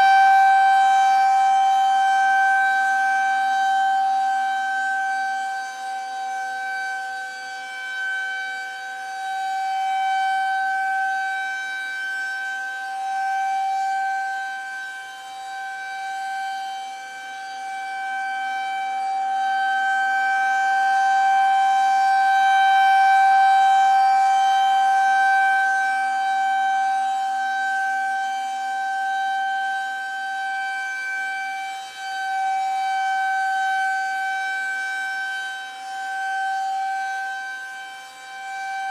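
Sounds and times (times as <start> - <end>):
rotating warning siren steady tone: 0.0 - 38.9.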